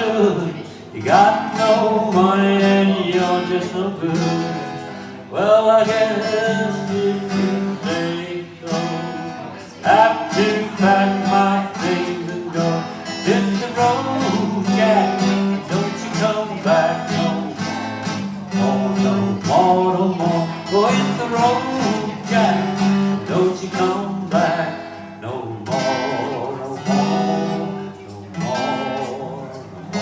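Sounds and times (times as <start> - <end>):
acoustic guitar strumming: 0.0 - 30.0
person singing: 0.0 - 30.0.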